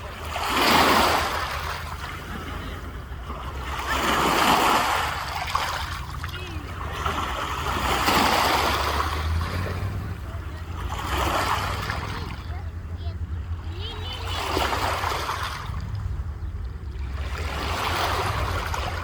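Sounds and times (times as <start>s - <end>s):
waves breaking on shore: 0.0s - 19.0s.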